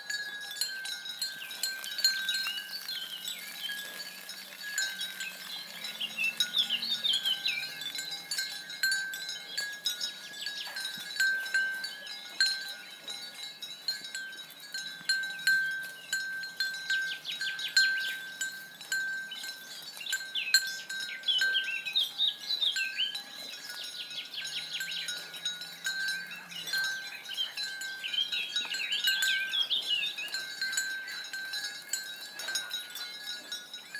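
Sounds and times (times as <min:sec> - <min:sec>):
livestock bell clanking: 0:00.0 - 0:33.9.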